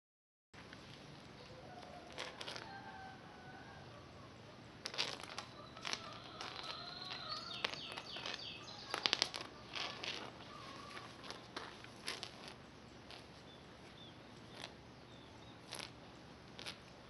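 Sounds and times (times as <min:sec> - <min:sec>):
birds chirping: 0:01.4 - 0:11.9, 0:12.6 - 0:17.0.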